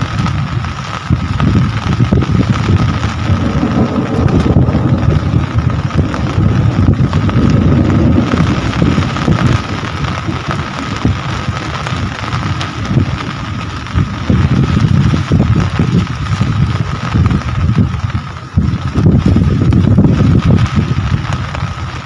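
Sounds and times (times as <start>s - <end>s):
low rumble: 0.0s - 22.0s
rain falling: 0.0s - 22.0s.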